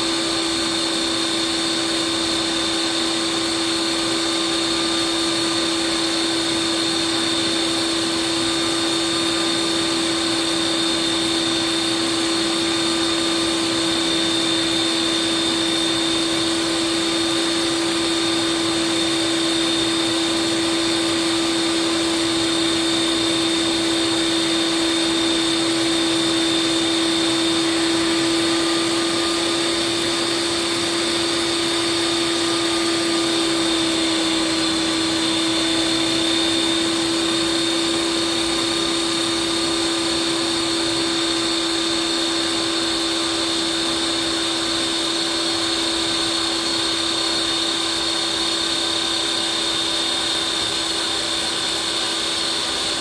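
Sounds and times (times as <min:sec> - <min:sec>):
ice cream maker motor whine: 0:00.0 - 0:53.0.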